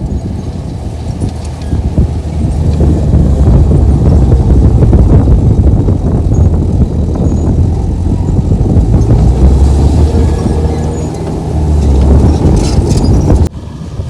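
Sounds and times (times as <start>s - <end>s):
bulldozer diesel engine rumbling: 0.0s - 14.0s.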